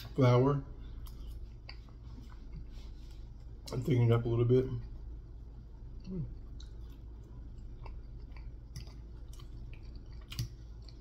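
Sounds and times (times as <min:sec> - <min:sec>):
soft chewing: 0:00.0 - 0:11.0.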